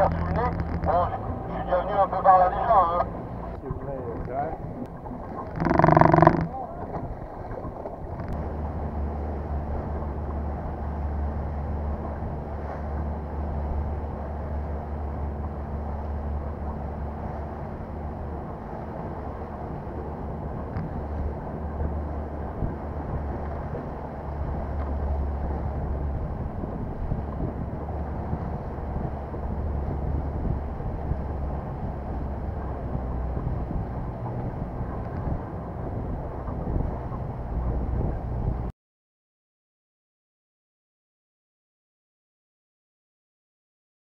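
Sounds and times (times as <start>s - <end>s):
outboard engine droning: 0.0s - 38.7s
wind on microphone: 3.1s - 38.7s.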